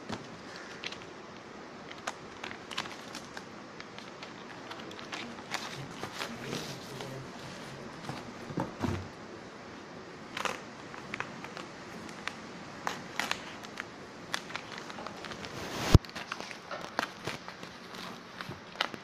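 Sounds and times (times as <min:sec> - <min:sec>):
plastic packaging crackling: 0:00.0 - 0:08.4, 0:10.2 - 0:19.0.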